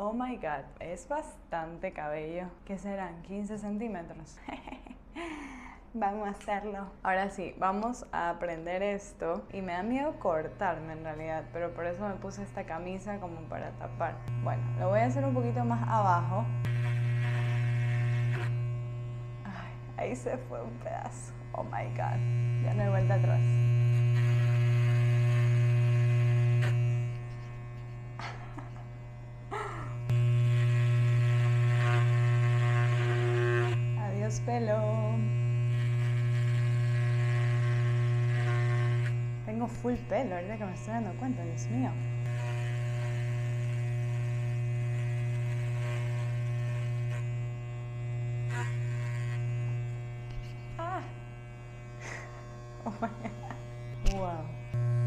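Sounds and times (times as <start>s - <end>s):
electric hair clipper buzzing: 9.3s - 55.0s.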